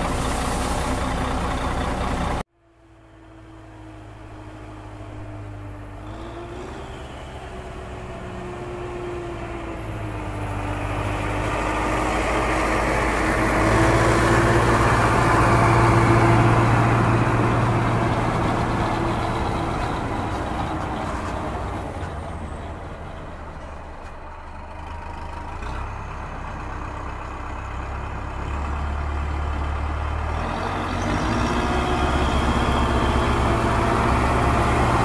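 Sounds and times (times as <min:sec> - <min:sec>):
truck engine humming: 0:00.0 - 0:35.0.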